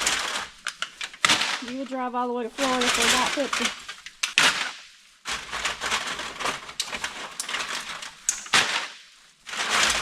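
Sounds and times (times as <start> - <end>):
cans crinkling in plastic bag: 0.0 - 10.0.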